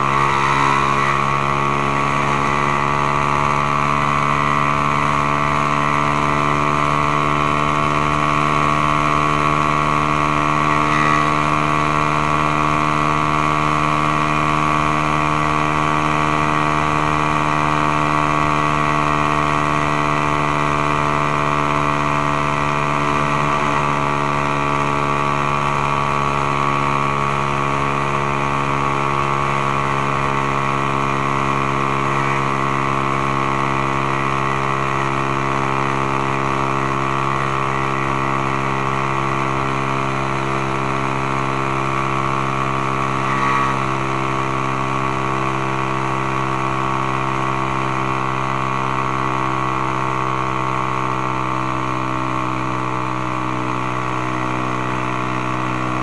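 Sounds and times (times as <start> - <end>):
motorcycle engine at steady revs: 0.0 - 56.0.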